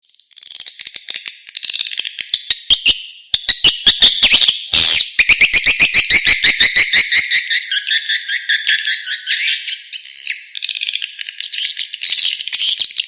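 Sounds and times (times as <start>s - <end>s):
high-pitched bird twittering: 1.7s - 13.0s.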